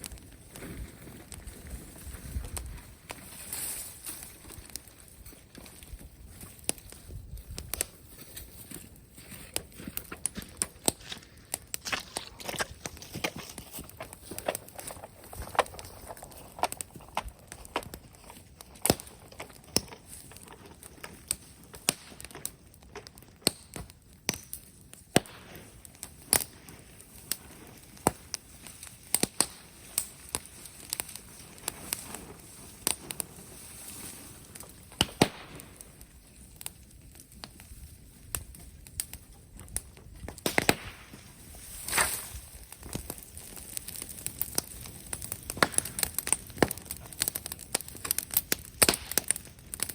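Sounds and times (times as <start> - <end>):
bonfire crackling and popping: 0.0 - 49.9
low hiss of fire: 0.0 - 49.9.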